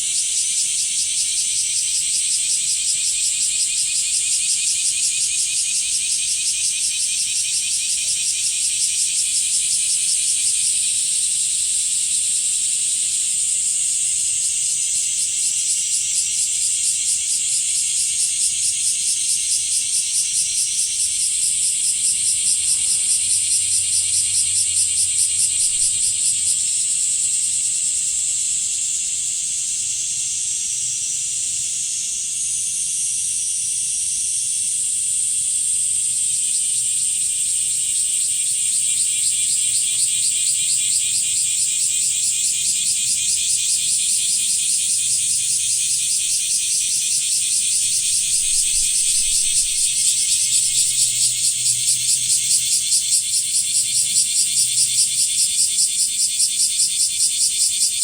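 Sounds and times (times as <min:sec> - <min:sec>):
cicadas buzzing in chorus: 0:00.0 - 0:58.0.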